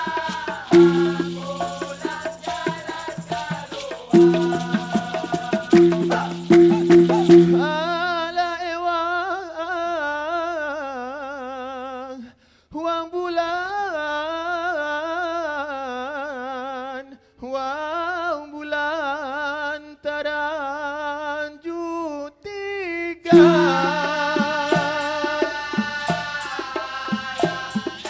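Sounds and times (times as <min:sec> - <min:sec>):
man singing unaccompanied: 0:00.0 - 0:12.2, 0:12.8 - 0:28.0.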